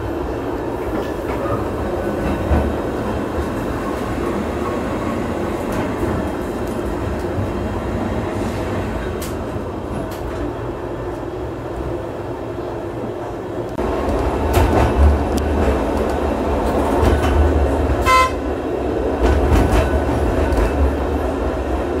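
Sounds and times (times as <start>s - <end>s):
tram motors and wheels rumbling: 0.0s - 22.0s.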